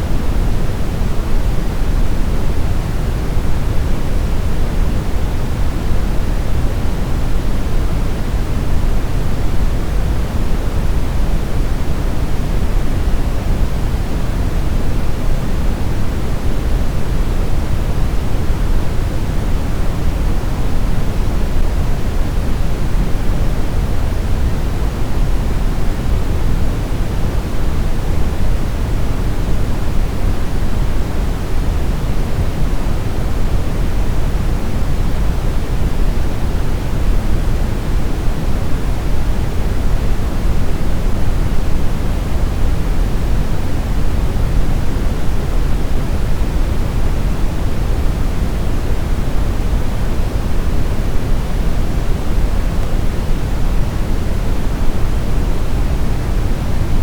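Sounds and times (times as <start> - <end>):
brown noise rumbling hiss: 0.0 - 57.0.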